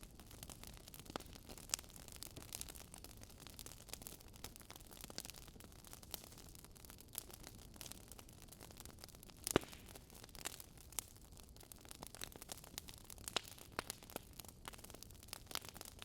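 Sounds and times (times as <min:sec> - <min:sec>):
wood logs crackling: 0:00.2 - 0:16.0.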